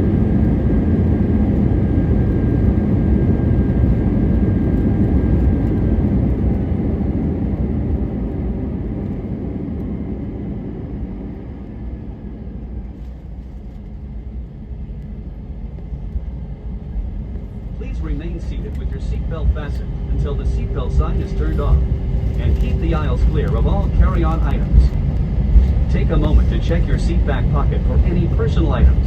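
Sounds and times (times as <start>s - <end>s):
aircraft cabin engine and air noise: 0.0s - 29.0s.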